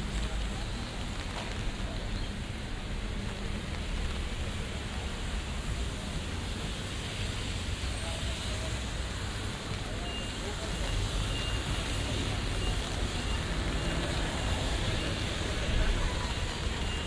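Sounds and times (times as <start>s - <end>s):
rain hissing: 0.0s - 17.0s
rumble of passing vehicles: 0.0s - 17.0s
traffic on wet roads: 0.0s - 17.0s.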